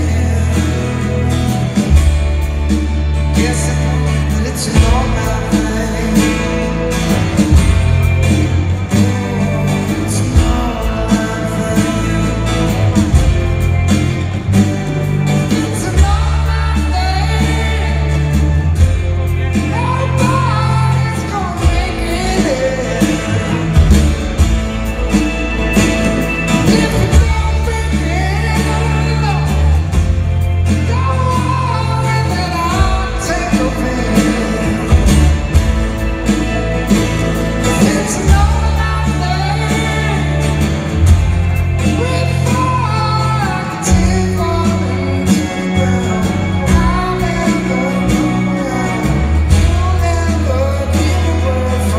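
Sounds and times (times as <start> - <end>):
man singing lead vocal: 0.0 - 25.5, 26.1 - 51.9
live rock band playing: 0.0 - 51.9.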